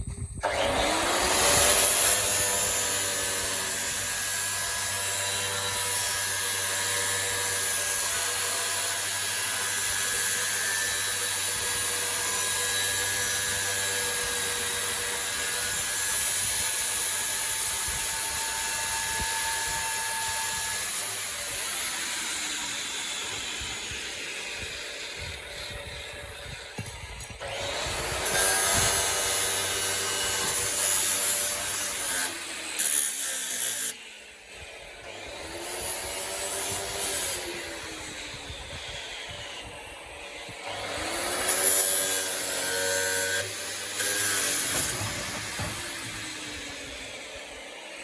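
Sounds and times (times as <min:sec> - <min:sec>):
power tool whining: 0:00.0 - 0:48.0.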